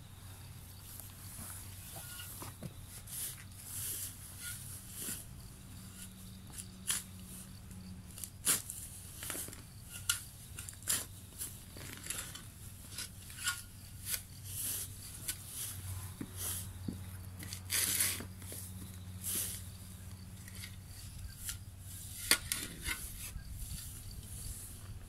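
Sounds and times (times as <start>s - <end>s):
spade scraping soil: 1.0s - 25.0s.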